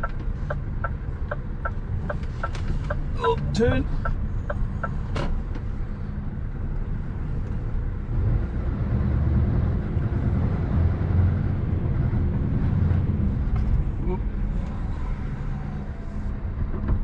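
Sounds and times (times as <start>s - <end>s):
lorry diesel engine rumbling: 0.0s - 17.0s.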